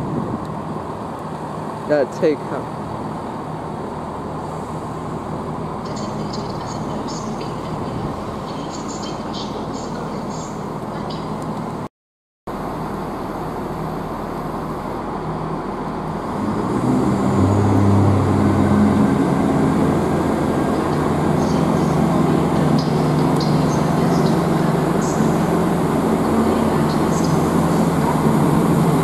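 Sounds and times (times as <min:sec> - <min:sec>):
diesel train engine drone: 0:00.0 - 0:11.9, 0:12.5 - 0:29.0.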